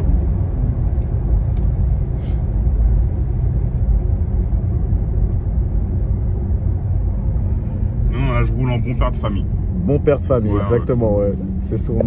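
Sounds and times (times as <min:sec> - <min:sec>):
tyre and road rumble inside car: 0:00.0 - 0:12.0.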